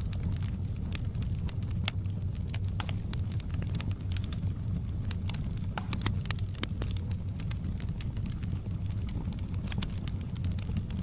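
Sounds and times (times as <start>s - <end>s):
burning logs crackling and popping: 0.0s - 11.0s
flame rumbling: 0.0s - 11.0s.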